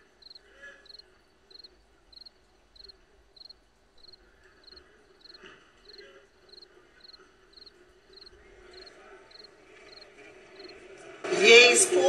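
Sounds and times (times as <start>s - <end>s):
cricket chirping: 0.0s - 10.8s.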